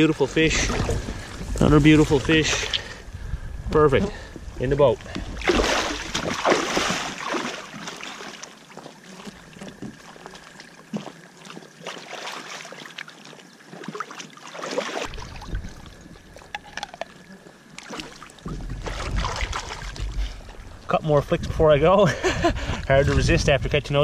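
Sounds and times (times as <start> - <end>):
water sloshing around wading boots: 0.4 - 3.0, 4.1 - 20.9.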